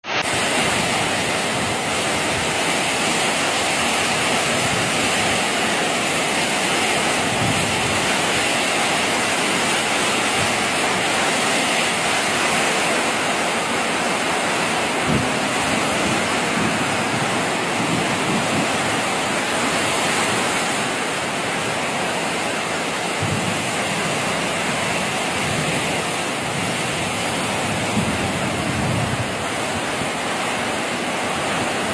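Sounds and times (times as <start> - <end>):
rain falling: 0.0 - 31.9.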